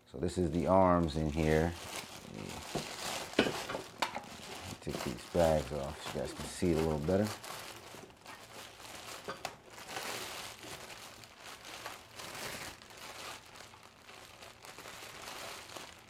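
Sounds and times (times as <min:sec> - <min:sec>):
plastic bags crinkling: 0:00.4 - 0:16.0.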